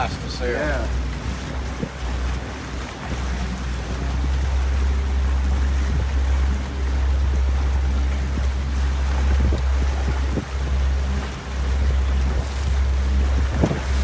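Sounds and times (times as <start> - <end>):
water splashing around boat hulls: 0.0 - 14.0
wind rumble on microphone: 0.0 - 14.0.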